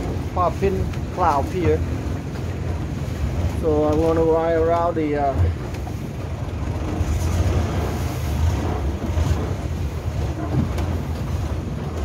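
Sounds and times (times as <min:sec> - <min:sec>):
boat engine rumble: 0:00.0 - 0:12.0
water washing past hull: 0:00.0 - 0:12.0
wind on microphone: 0:00.0 - 0:12.0.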